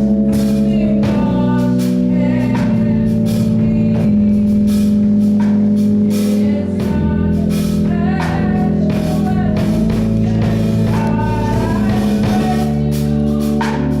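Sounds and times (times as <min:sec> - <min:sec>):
held instrumental chords: 0:00.0 - 0:14.0
person singing gospel: 0:00.0 - 0:14.0.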